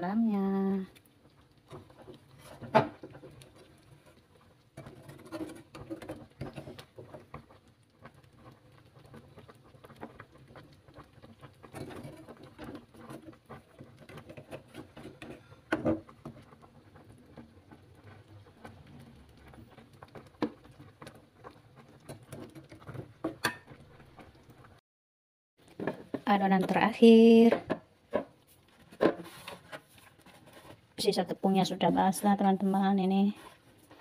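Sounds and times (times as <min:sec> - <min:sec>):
skimmer clinking and scraping in pot: 0:01.3 - 0:24.7, 0:25.7 - 0:34.0.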